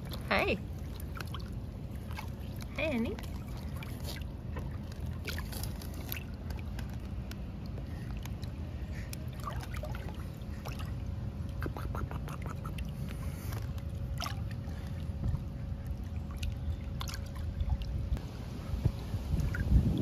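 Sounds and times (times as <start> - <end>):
small splashes: 0.0 - 18.0
pool water lapping and splashing: 0.0 - 20.0
steady low rumble: 0.0 - 20.0.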